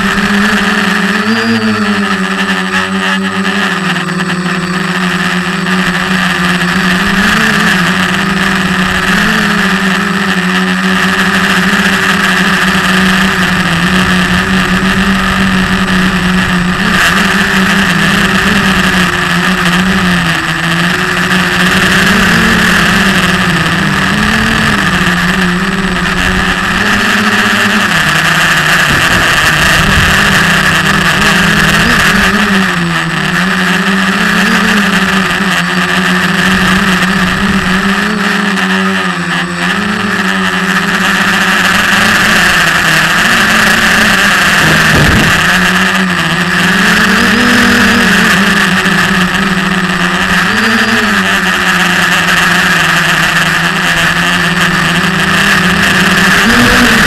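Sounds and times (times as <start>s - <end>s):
quadcopter propellers buzzing: 0.0s - 57.0s.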